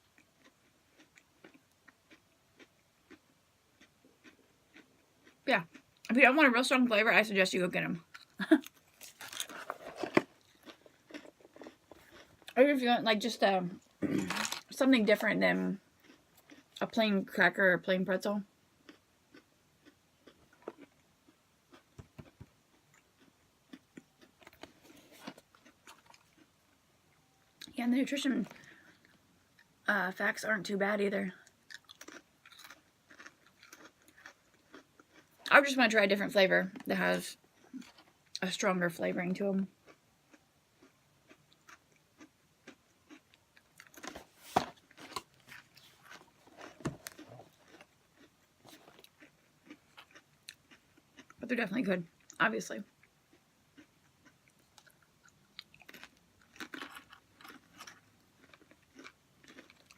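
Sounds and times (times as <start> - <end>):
chewing crisp crackers: 0.0 - 6.2, 8.0 - 12.6, 13.8 - 17.0, 18.8 - 27.8, 28.4 - 29.8, 31.3 - 35.6, 36.7 - 38.6, 39.7 - 59.9.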